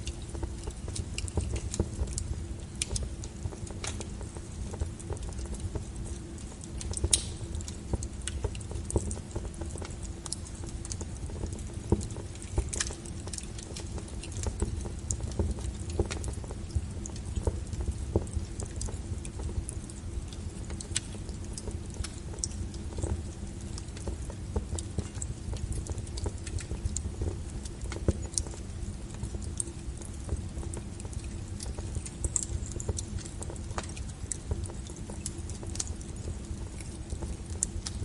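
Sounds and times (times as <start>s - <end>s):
low rumble of flame: 0.0s - 38.0s
wood fire crackling: 0.0s - 38.0s.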